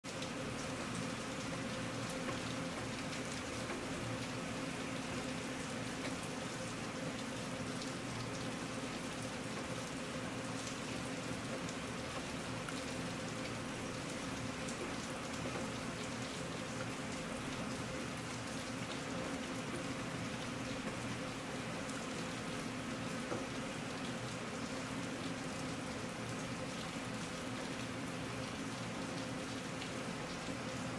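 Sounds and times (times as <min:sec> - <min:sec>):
rain falling: 0:00.1 - 0:30.9.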